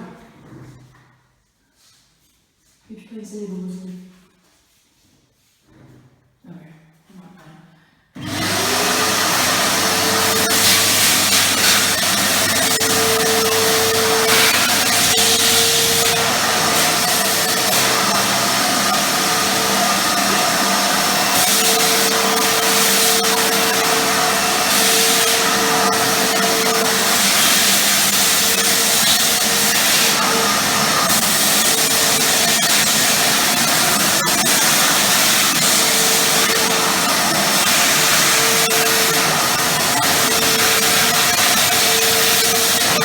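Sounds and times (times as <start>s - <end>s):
vacuum cleaner running: 8.2s - 43.0s.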